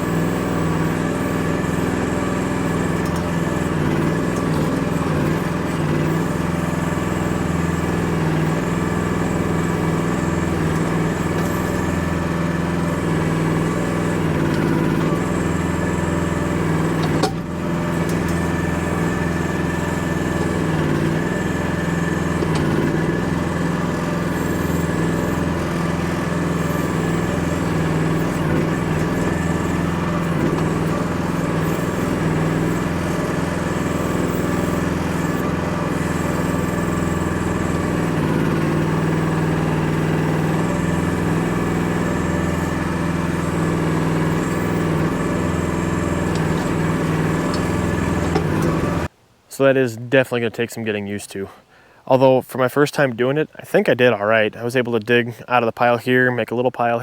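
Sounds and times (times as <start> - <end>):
excavator digging dirt: 0.0 - 49.1
small excavator engine running: 0.0 - 49.5.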